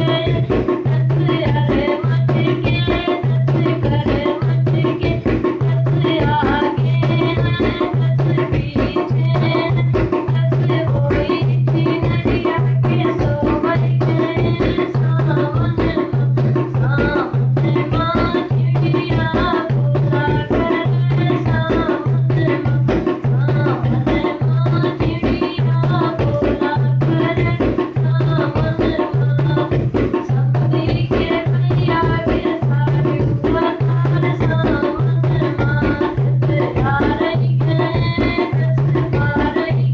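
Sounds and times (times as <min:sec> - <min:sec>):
hand drum beat: 0:00.0 - 0:39.9.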